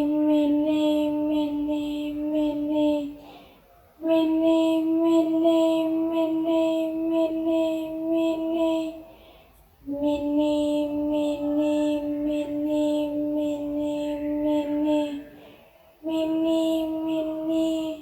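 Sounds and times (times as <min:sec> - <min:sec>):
high voice chanting: 0:00.0 - 0:09.1, 0:09.8 - 0:18.0.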